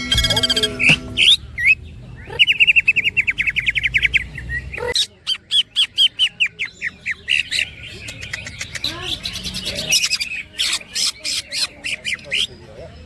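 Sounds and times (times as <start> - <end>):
bird singing trills and chirps: 0.0 - 13.0.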